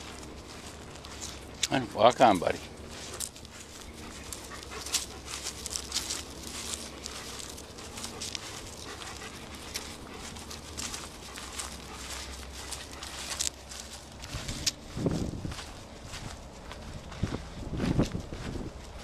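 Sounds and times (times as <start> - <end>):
dog panting: 0.0 - 17.4.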